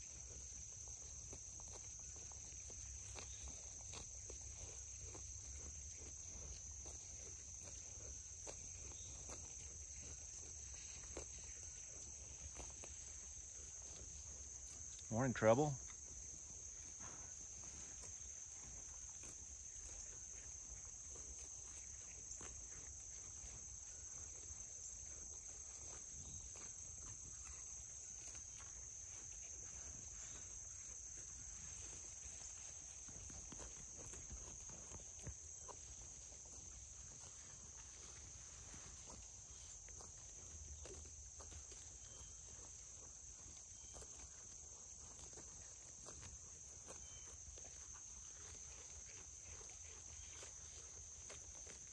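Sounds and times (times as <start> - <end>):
high-pitched insect chorus: 0.0 - 45.7
sheep tearing and chewing grass: 0.0 - 51.9.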